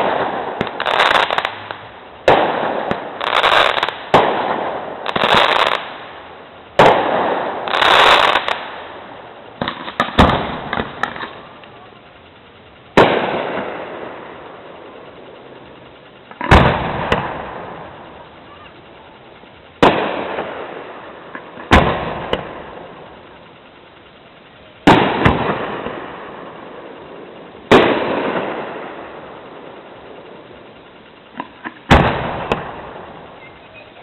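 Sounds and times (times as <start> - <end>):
firework bangs: 0.0 - 34.0
rolling echo: 0.0 - 34.0.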